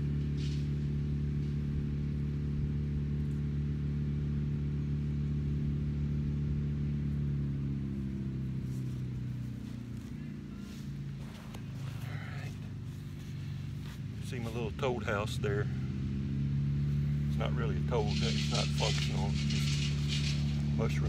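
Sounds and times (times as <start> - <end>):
engine running with constant hum: 0.0 - 21.0.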